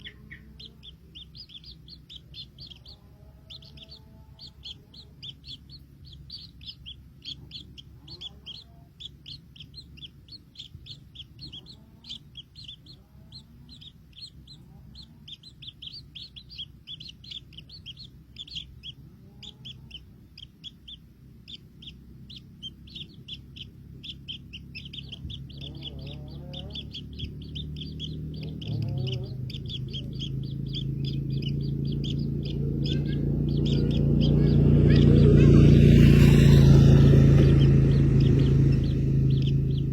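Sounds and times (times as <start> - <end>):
baby birds chirping: 0.0 - 39.9
low steady hum: 0.0 - 39.9.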